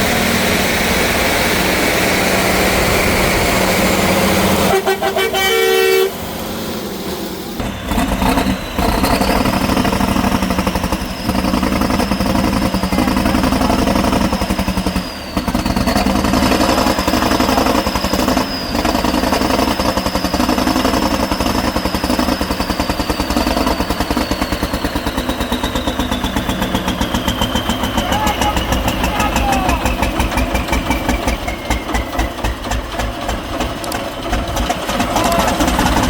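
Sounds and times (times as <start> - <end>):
truck engine running hard: 0.0 - 36.0.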